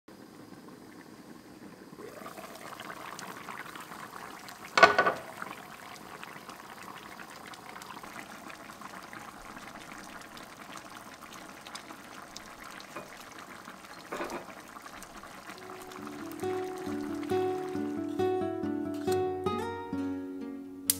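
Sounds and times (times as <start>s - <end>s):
stew bubbling in a pan: 0.1s - 18.4s.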